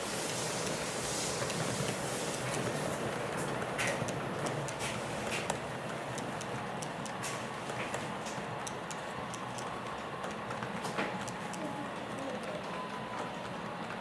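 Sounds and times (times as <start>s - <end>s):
model train rolling rumble: 0.0s - 14.0s
wheels clicking over rail joints: 0.2s - 14.0s.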